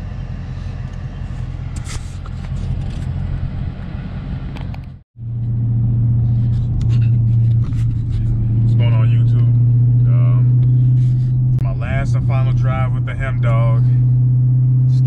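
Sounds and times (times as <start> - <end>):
car engine droning while driving: 0.0 - 15.0.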